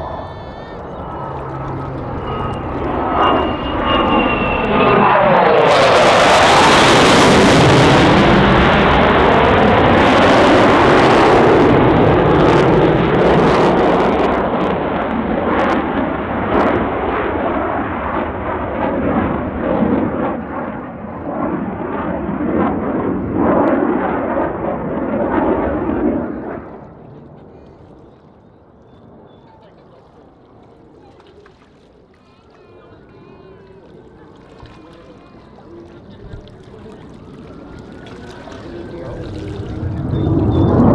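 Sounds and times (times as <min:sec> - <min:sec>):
jet engine roar with crackle: 0:00.0 - 0:40.9.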